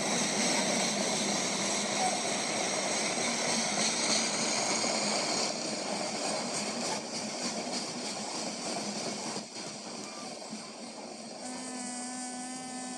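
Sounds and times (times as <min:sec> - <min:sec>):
freight train wheels on rails: 0:00.0 - 0:12.9.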